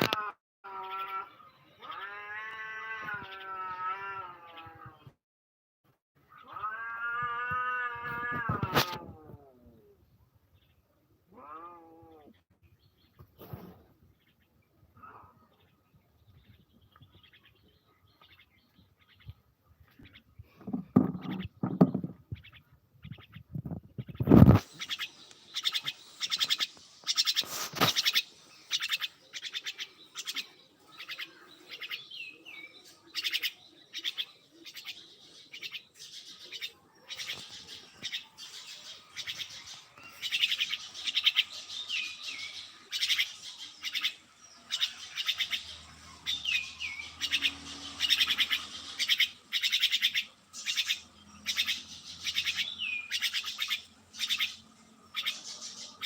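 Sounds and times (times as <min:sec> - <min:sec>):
small birds chirping: 0:00.7 - 0:05.2, 0:06.2 - 0:56.0.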